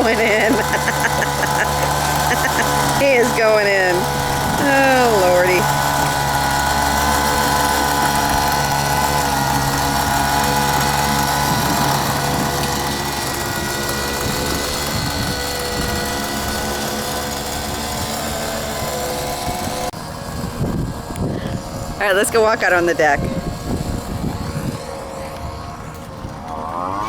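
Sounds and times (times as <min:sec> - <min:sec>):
leaf blower engine running: 0:00.0 - 0:27.0.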